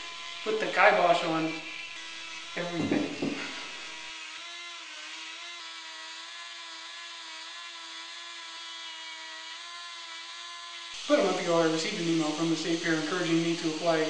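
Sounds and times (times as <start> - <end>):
rotary carving tool whining: 0.0 - 14.0.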